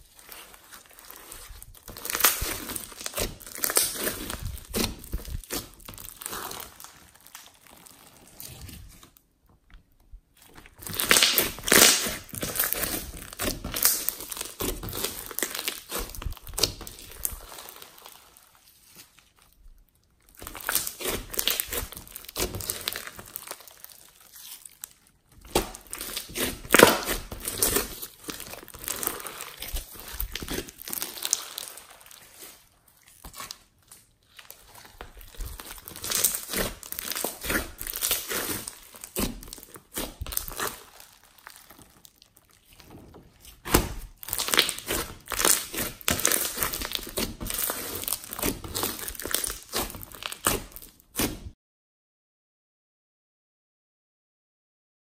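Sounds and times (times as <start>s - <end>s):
slime crackling and popping: 0.0s - 8.8s, 10.3s - 51.6s.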